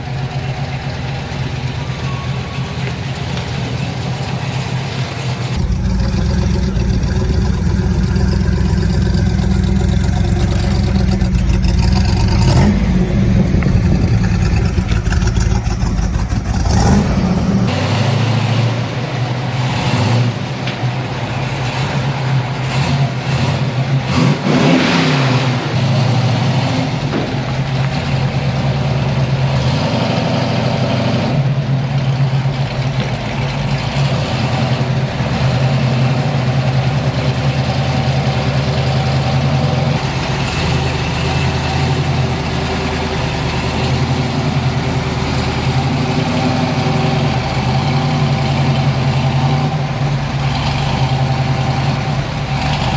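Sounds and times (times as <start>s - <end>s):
car engine idling and revving: 0.0s - 52.9s.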